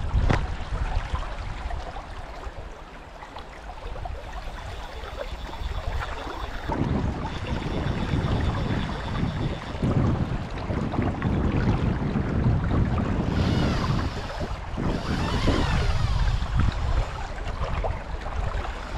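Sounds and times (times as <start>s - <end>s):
wind buffeting microphone: 0.0s - 2.7s, 3.7s - 18.9s
fast river current rushing: 0.0s - 18.9s.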